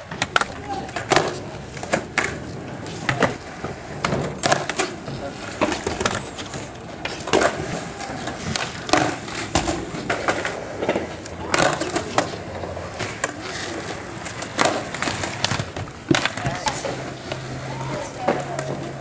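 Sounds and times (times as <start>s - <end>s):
skateboard wheels rolling: 0.0s - 19.0s
skateboard wooden clacks: 0.0s - 19.0s.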